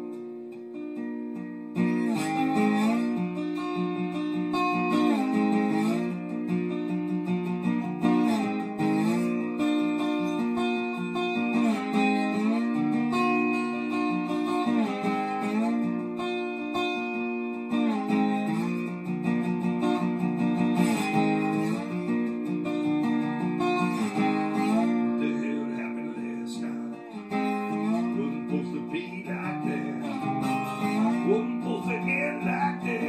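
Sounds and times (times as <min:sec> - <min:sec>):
slide guitar playing: 0:00.0 - 0:33.0.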